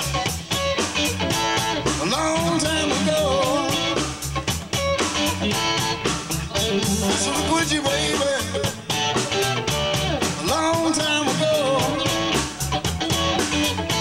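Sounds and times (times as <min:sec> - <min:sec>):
electric blues band playing: 0:00.0 - 0:14.0
lead guitar bending in pitch: 0:02.6 - 0:14.0.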